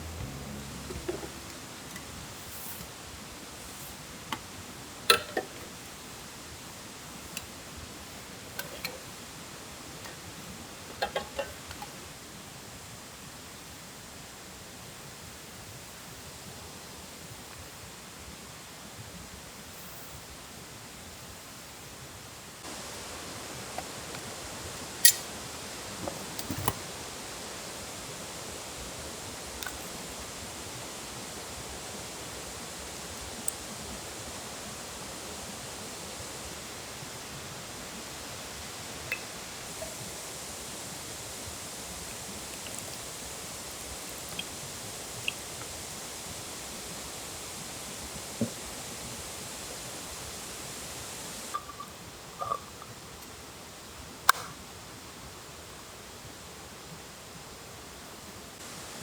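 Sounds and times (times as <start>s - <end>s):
outdoor hiss: 0.0s - 59.0s.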